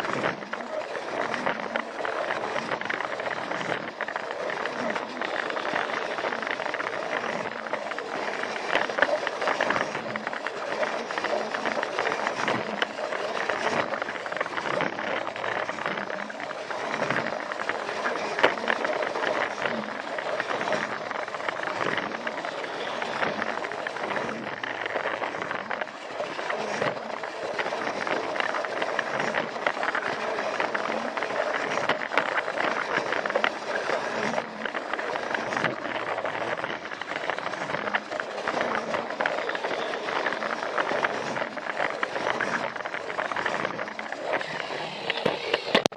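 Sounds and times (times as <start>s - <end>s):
toy train motor whirring: 0.0s - 45.9s
toy train wheels clicking: 0.0s - 45.9s.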